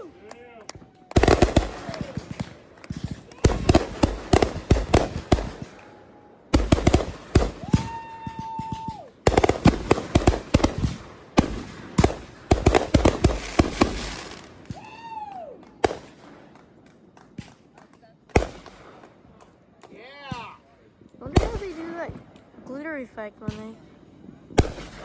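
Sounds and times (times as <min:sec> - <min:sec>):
whistling fireworks: 0:00.0 - 0:19.6, 0:20.3 - 0:25.0
fireworks bangs and crackles: 0:00.0 - 0:25.0.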